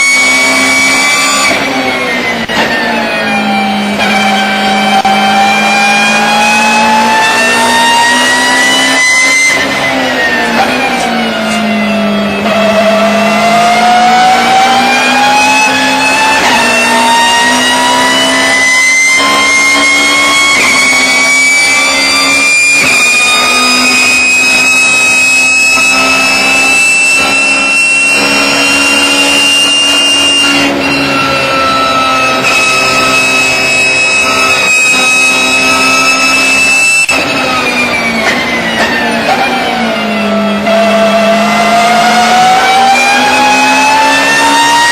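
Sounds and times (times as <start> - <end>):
race car engine drone: 0.0 - 44.9
race car gear whine: 0.0 - 44.9.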